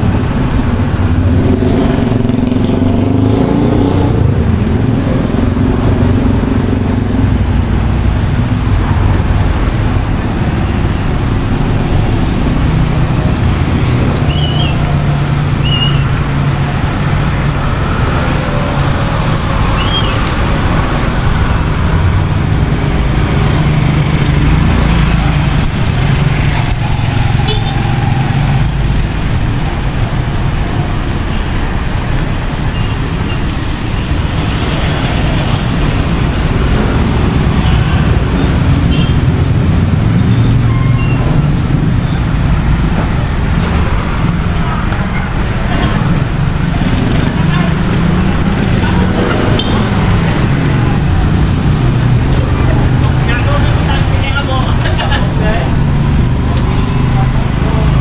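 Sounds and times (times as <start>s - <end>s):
vehicle engines passing: 0.0s - 58.0s.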